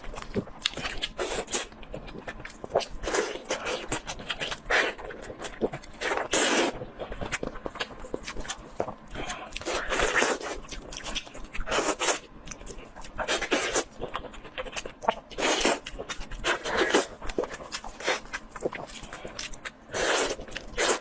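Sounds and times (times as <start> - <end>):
person chewing and biting food: 0.0 - 21.0.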